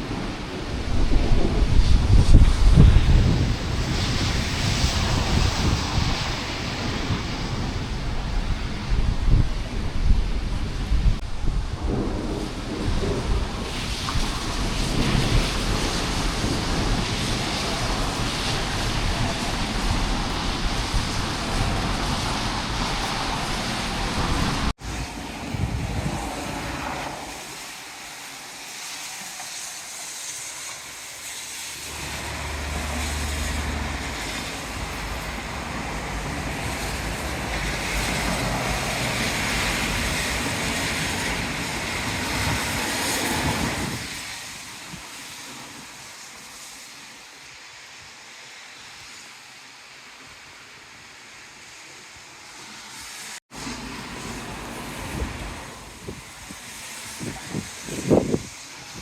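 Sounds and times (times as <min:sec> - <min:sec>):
heavy rain: 0:00.0 - 0:59.0
strong wind: 0:00.0 - 0:59.0.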